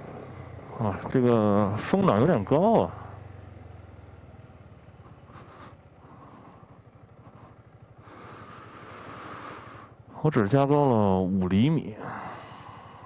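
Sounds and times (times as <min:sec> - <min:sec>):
scooter engine pulsing: 0:00.0 - 0:11.4.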